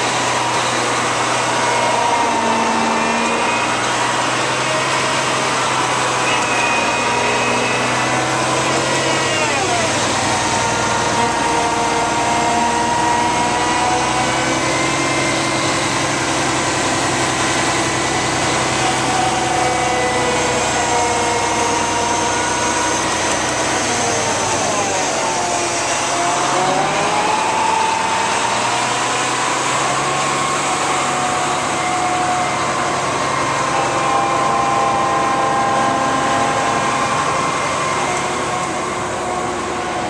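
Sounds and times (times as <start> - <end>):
diesel truck engine running: 0.0 - 40.0
whining tones: 0.0 - 40.0.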